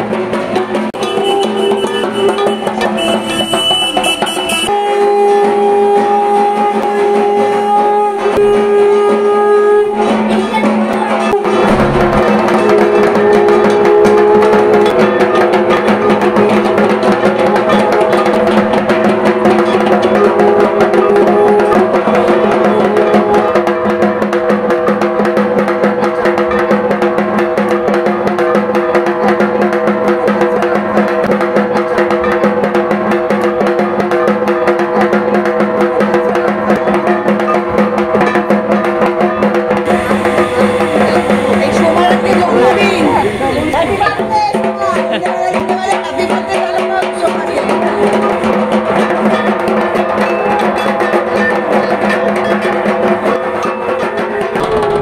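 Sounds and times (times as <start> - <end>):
rapid dense drumming: 0.0 - 55.0.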